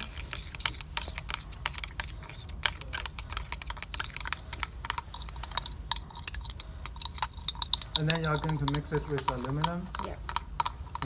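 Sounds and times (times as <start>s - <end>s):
low steady hum: 0.0s - 11.0s
rapid light clicks and taps: 0.0s - 11.0s.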